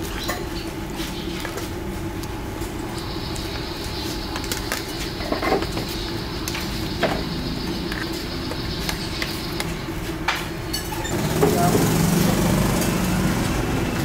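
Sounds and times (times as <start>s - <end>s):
street food stall background noise: 0.0s - 14.0s.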